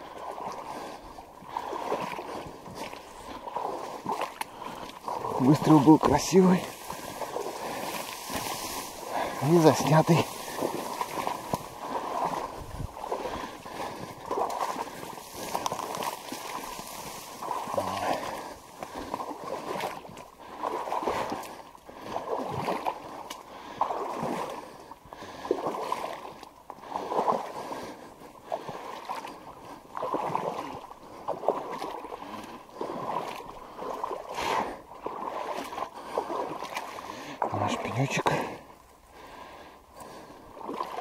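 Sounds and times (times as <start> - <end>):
walking through wet reeds and water: 0.0 - 41.0.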